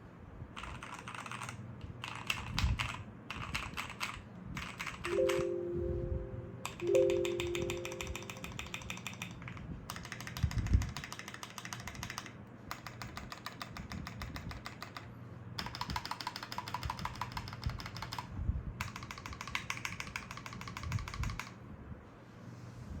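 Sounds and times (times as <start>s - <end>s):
mechanical keyboard typing: 0.6s - 5.5s, 6.6s - 21.5s.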